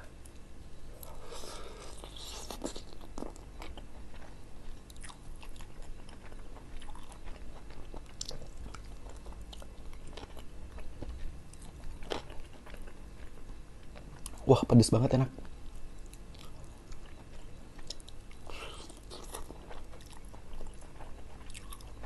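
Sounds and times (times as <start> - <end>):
biting and chewing chicken: 1.8 - 14.4, 15.4 - 22.0.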